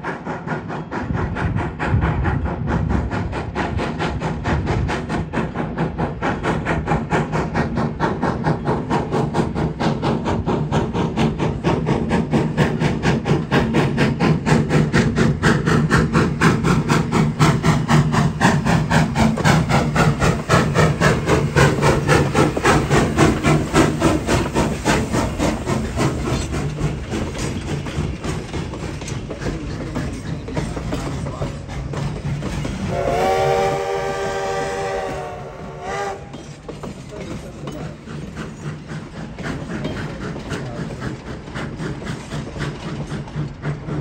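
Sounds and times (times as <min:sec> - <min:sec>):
steam locomotive chuffing: 0:00.0 - 0:44.0
train cars rolling: 0:00.0 - 0:44.0.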